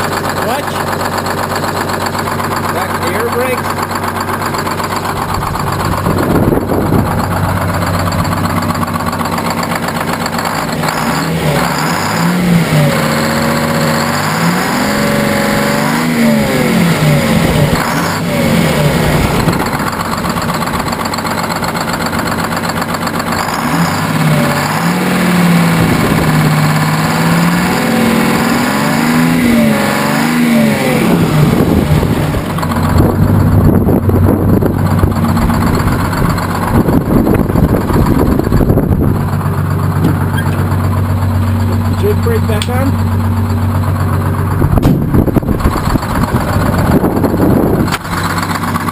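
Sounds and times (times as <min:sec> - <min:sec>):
diesel truck engine revving: 0:00.0 - 0:48.9.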